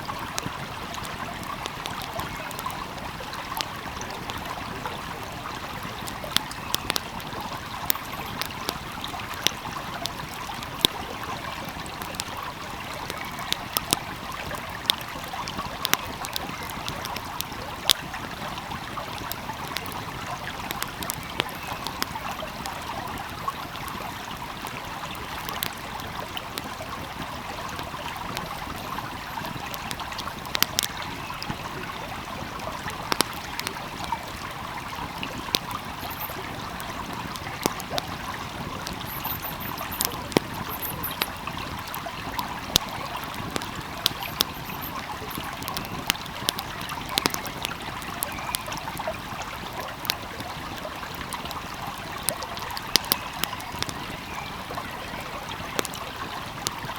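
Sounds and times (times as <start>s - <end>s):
wood fire crackling: 0.0s - 54.2s
stream flowing: 0.0s - 56.9s.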